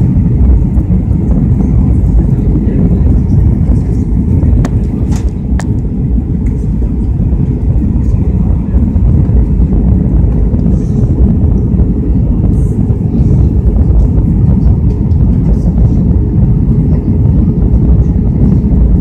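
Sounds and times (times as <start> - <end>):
airliner engines rumbling: 0.0 - 19.0
faint steady hum: 0.0 - 19.0
rushing air in cabin: 0.0 - 19.0.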